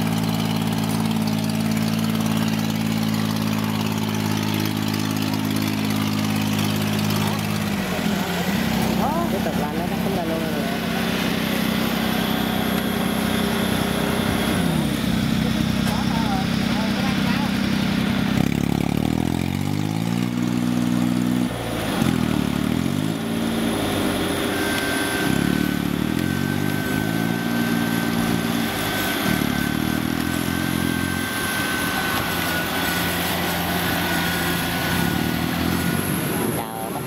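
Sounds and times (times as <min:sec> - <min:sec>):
thin high whine: 0:00.0 - 0:19.1, 0:20.1 - 0:37.0
harvester diesel engine: 0:00.0 - 0:37.0.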